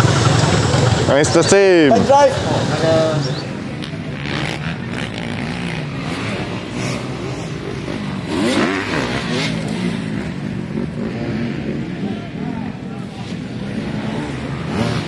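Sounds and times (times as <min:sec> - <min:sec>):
dirt bike engines running: 0:00.0 - 0:15.0
dirt bike revving: 0:00.0 - 0:15.0.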